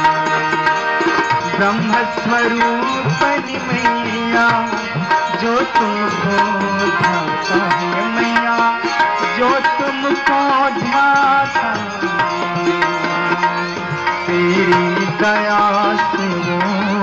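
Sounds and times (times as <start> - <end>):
held melodic notes: 0.0 - 17.0
tabla drumming: 0.0 - 17.0.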